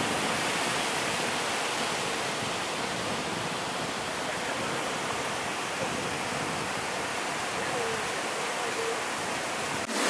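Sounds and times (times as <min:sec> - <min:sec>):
ocean surf breaking on a beach: 0:00.0 - 0:10.0.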